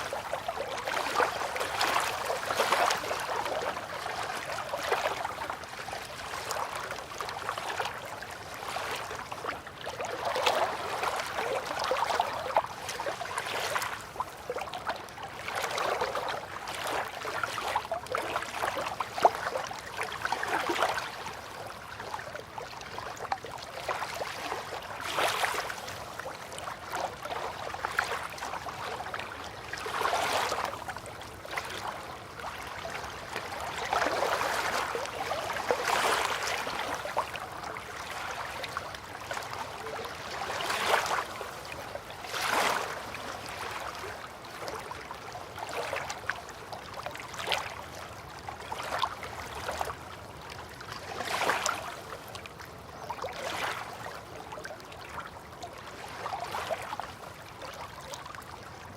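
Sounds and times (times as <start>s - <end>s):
river water lapping at bank: 0.0s - 58.9s.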